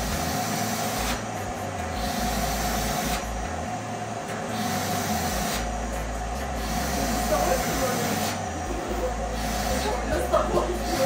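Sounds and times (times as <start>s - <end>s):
vacuum cleaner motor whine: 0.0s - 11.0s
vacuum suction hiss: 0.0s - 11.0s.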